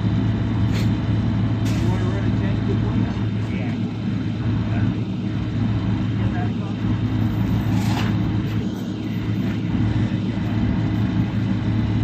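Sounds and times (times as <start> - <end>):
heavy truck engine idling: 0.0 - 12.0.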